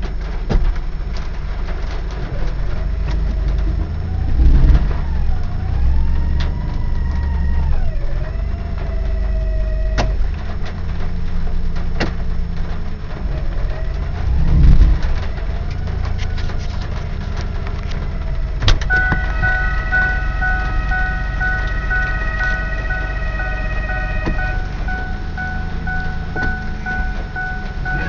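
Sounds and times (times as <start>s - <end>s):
car engine running: 0.0s - 28.0s
transmission whining: 2.2s - 28.0s.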